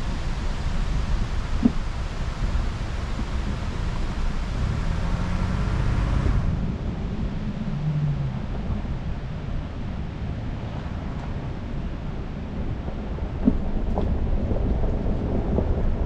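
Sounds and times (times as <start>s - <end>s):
engine and tyres rumbling: 0.0s - 16.0s
wind noise on microphone: 0.0s - 16.0s.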